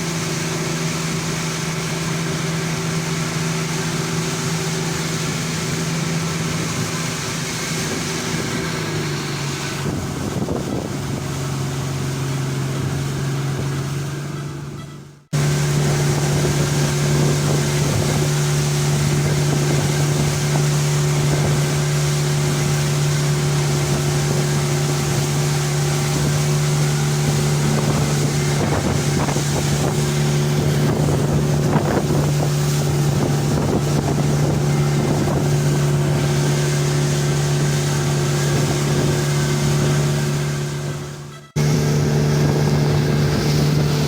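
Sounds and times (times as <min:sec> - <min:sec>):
speedboat engine drone: 0:00.0 - 0:44.0
water rushing past hull: 0:00.0 - 0:44.0
wind buffeting microphone: 0:00.0 - 0:44.0.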